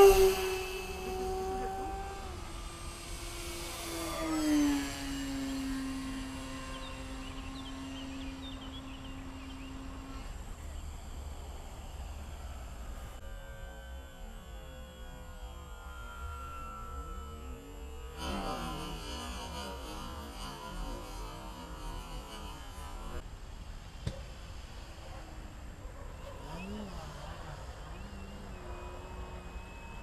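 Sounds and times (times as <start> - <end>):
model airplane motor whining: 0.0 - 23.2, 24.7 - 30.0.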